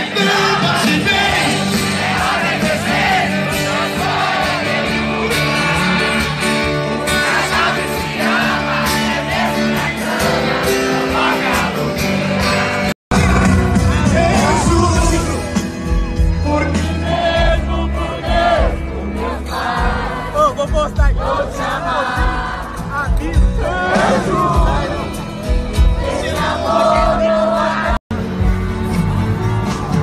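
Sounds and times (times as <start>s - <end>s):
crowd noise: 0.0s - 30.0s
live band playing: 0.0s - 30.0s.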